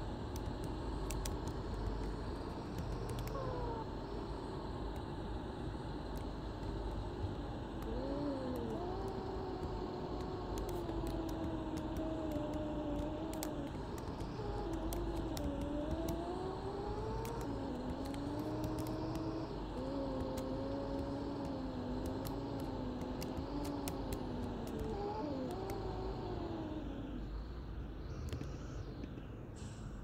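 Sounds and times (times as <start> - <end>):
bus drivetrain whine: 0.0 - 30.0
low engine rumble: 0.0 - 30.0.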